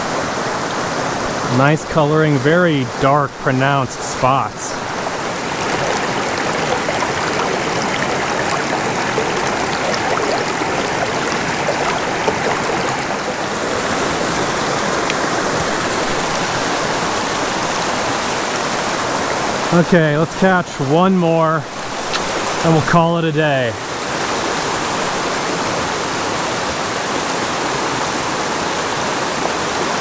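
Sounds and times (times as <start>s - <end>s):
creek rushing over stones: 0.0s - 30.0s.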